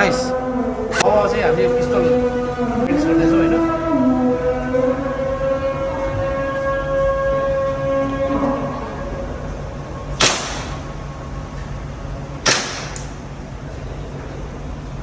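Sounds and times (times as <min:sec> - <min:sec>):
steady droning tone: 0:00.0 - 0:15.0.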